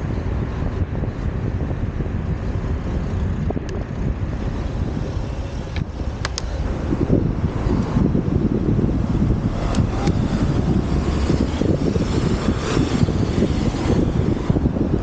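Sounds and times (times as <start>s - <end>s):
car traffic rumble: 0.0s - 15.0s
wind buffeting microphone: 0.0s - 15.0s.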